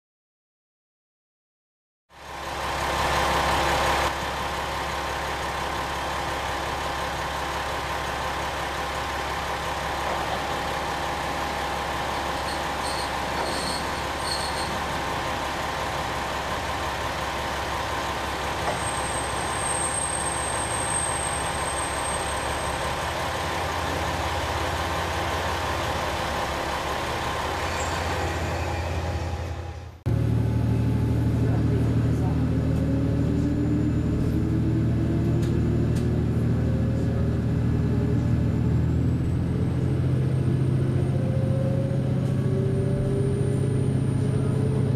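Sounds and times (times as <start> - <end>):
diesel engine drone: 2.1 - 44.9
railcar running noise: 2.1 - 44.9.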